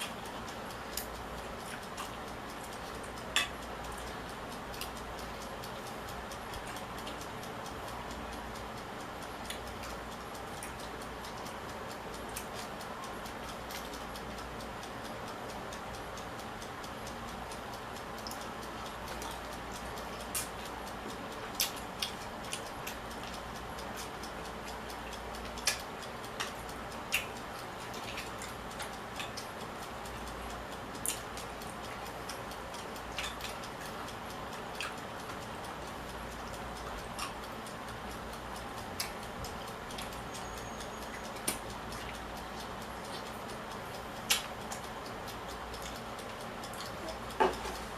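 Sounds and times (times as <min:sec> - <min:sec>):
eating clicks: 0:00.0 - 0:47.9
steady background hiss: 0:00.0 - 0:47.9.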